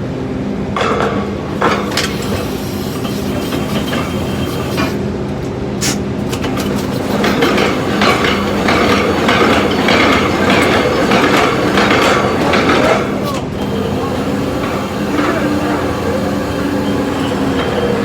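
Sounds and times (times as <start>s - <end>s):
rig machinery drone: 1.4s - 18.0s.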